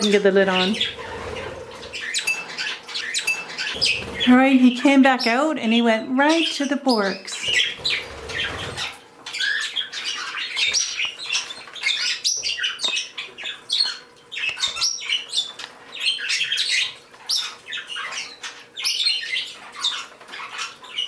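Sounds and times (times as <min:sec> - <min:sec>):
small birds chirping and squawking: 0:00.0 - 0:21.0.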